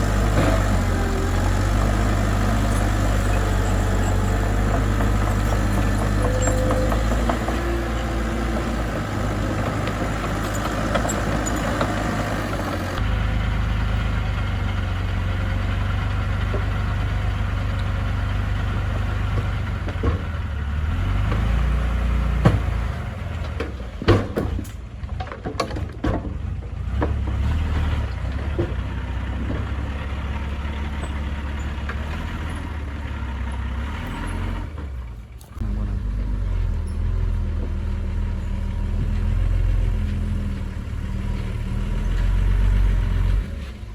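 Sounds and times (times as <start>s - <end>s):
diesel engine running: 0.0s - 25.4s, 26.3s - 43.9s.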